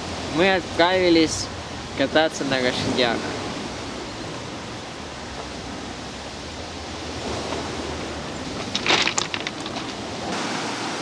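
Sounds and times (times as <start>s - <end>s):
steady wind or rushing water: 0.0s - 11.0s.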